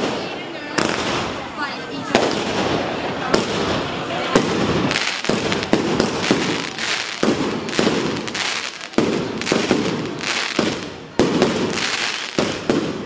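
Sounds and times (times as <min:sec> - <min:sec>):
firecrackers crackling: 0:00.0 - 0:13.0
firecracker bangs: 0:02.1 - 0:13.0.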